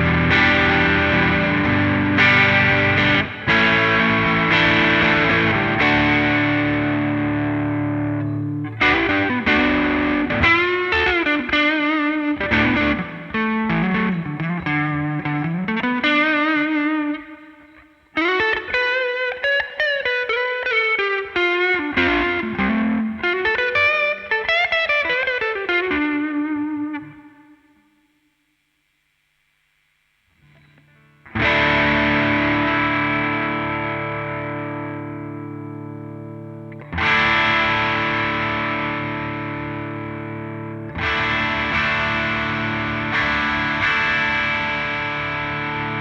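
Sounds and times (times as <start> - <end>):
overdriven electric guitar: 0.0 - 28.0, 30.2 - 46.0.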